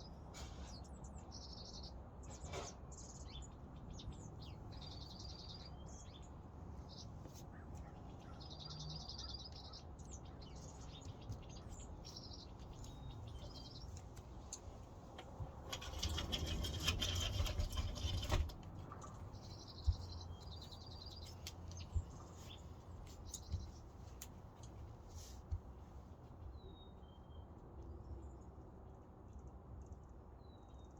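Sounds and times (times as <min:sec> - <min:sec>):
small songbirds chirping: 0:00.0 - 0:28.7.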